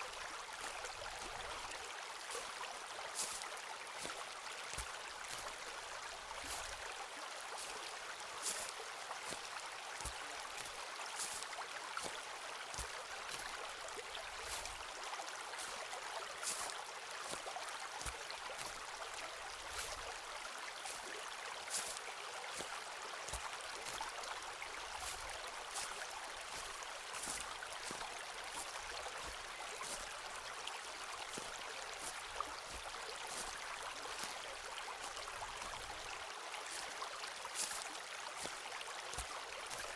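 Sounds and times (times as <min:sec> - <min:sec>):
footsteps on a forest trail: 0:00.0 - 0:39.9
stream rushing: 0:00.0 - 0:39.9.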